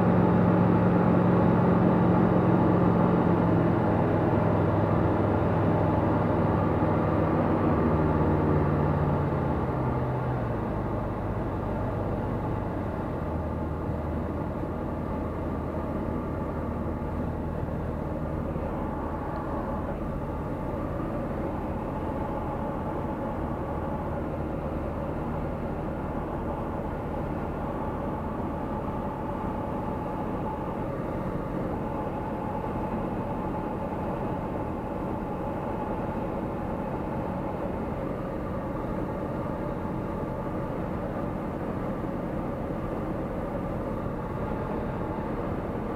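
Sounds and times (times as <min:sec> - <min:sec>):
light aircraft engine and propeller drone: 0:00.0 - 0:45.9.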